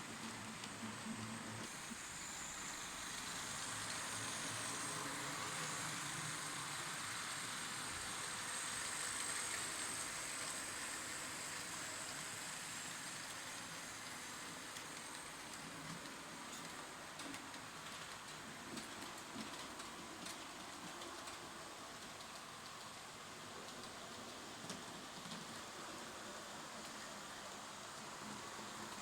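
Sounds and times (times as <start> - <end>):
model train running: 0.0 - 29.0.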